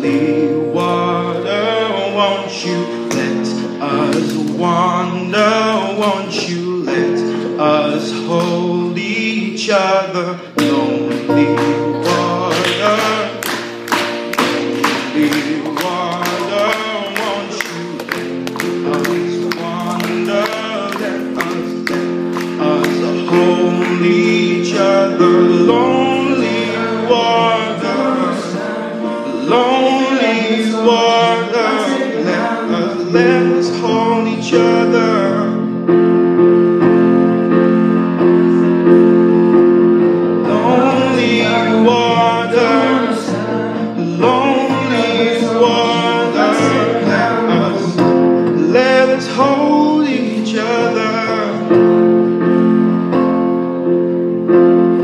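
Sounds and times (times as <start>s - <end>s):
man singing: 0.0s - 36.1s, 36.8s - 52.7s
digital piano chords: 0.0s - 55.0s.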